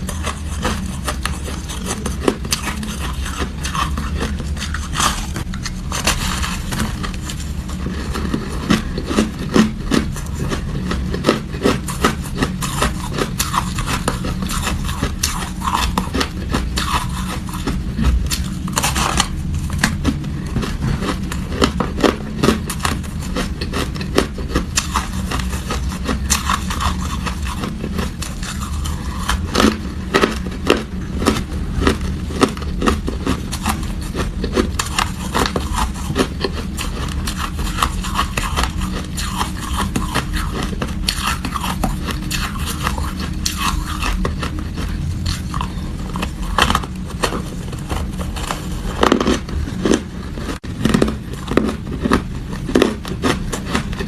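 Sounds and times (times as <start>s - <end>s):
chewing crunchy ice: 0.0s - 54.0s
low hum: 0.0s - 54.0s.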